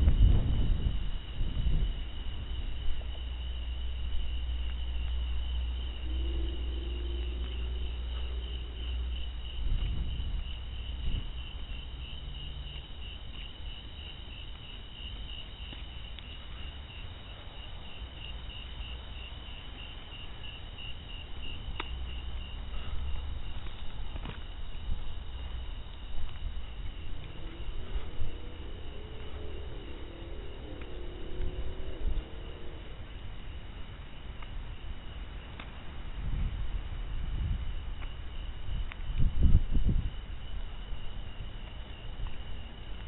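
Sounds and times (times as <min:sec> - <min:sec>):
low rumble: 0:00.0 - 0:37.9
crickets chirping: 0:00.0 - 0:43.0.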